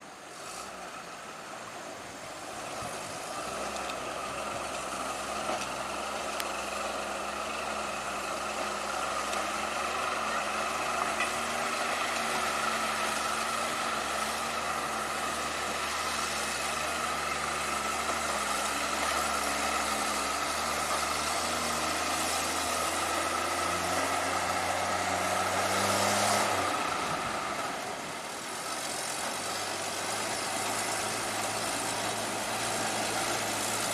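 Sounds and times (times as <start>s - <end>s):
truck engine running: 0.0s - 33.9s
broad hiss: 0.1s - 33.9s.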